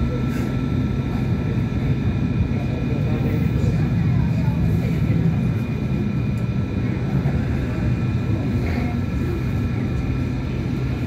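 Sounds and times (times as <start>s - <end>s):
tram running gear rumble: 0.0s - 11.0s.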